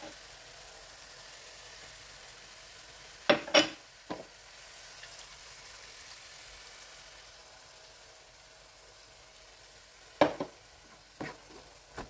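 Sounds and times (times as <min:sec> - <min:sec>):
paste sizzling in a wok: 0:00.0 - 0:12.0.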